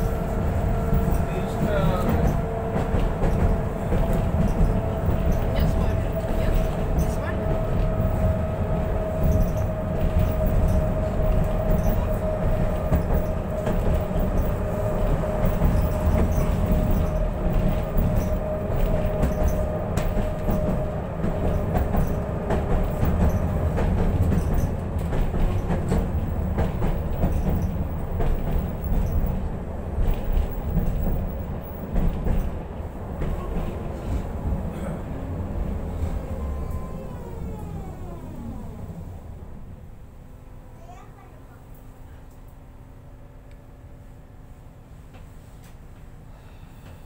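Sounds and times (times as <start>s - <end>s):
tram wheels rumbling: 0.0s - 47.0s.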